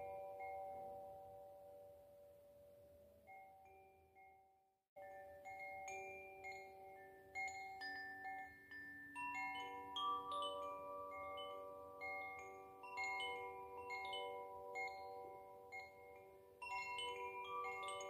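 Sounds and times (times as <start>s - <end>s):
wind chime ringing: 0.0s - 1.8s, 5.0s - 18.0s.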